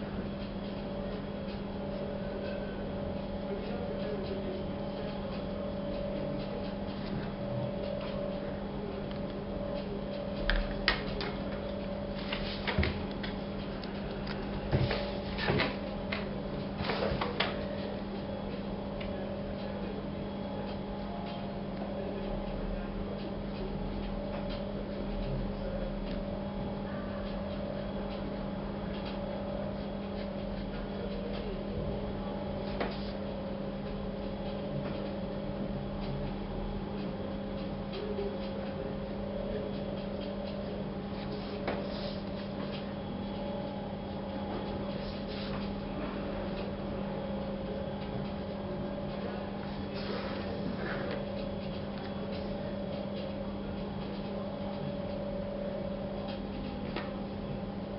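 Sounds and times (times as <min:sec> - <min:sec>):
low electrical hum: 0:00.0 - 0:57.9.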